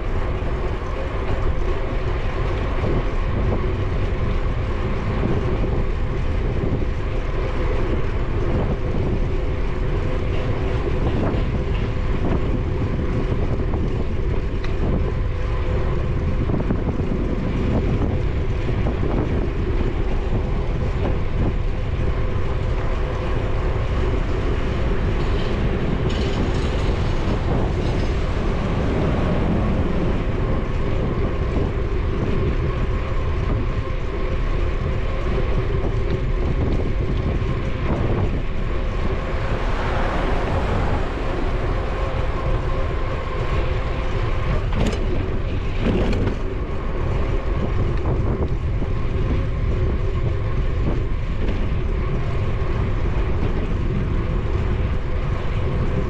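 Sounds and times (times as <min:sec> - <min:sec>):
tyre and road rumble: 0:00.0 - 0:56.0
wind buffeting microphone: 0:00.0 - 0:56.0.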